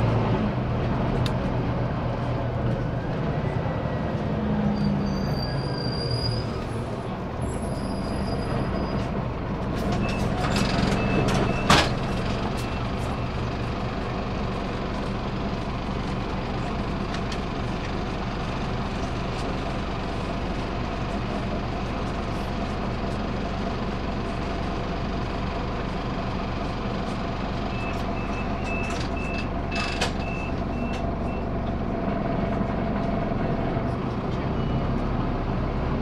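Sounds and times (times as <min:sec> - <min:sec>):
bus diesel engine idling: 0:00.0 - 0:36.0.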